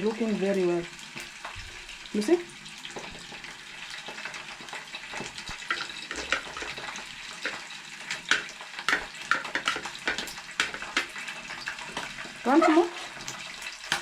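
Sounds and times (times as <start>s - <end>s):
hot oil sizzling and popping: 0.0s - 14.0s.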